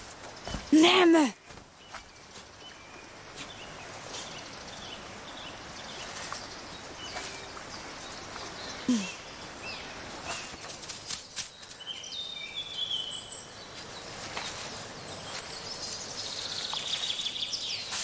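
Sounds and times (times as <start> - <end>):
outdoor hiss: 0.0 - 18.0
bird chirps: 0.3 - 18.0.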